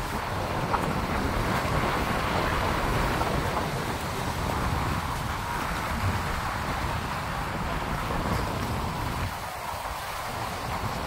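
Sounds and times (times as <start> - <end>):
small waves breaking on rocks: 0.0 - 11.0
wind buffeting microphone: 0.0 - 11.0.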